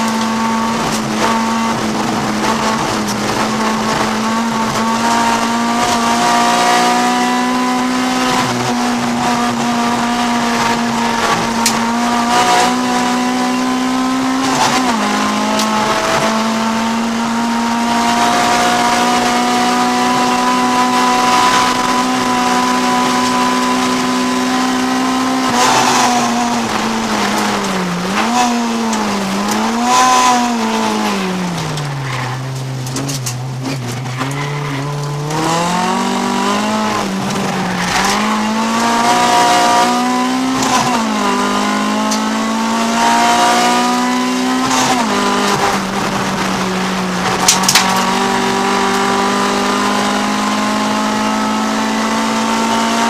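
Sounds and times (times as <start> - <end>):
race car engine at high revs: 0.0 - 53.0.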